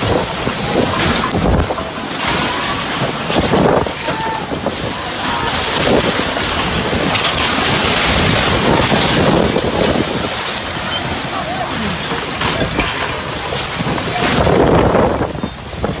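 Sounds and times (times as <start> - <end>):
storm wind gusting: 0.0 - 16.0
wind buffeting microphone: 0.0 - 16.0.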